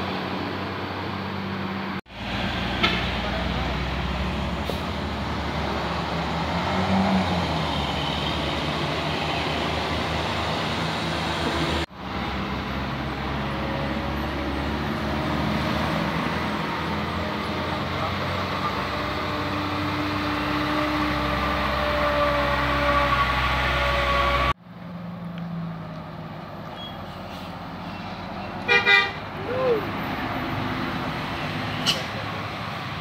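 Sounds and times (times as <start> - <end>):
bus diesel engines passing: 0.0 - 33.0
road noise: 0.0 - 33.0.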